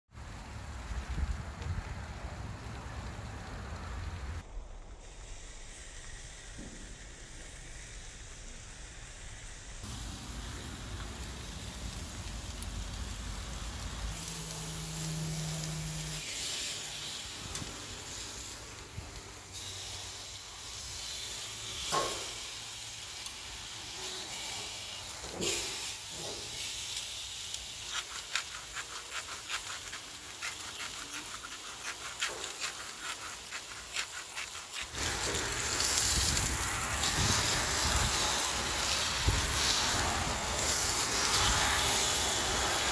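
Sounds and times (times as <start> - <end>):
steak sizzling on a grill: 5.0 - 42.9.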